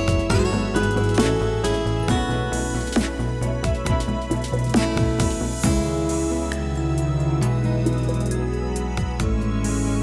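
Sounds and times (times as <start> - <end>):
gentle background music: 0.0 - 10.0
plucked guitar-like notes: 0.0 - 10.0.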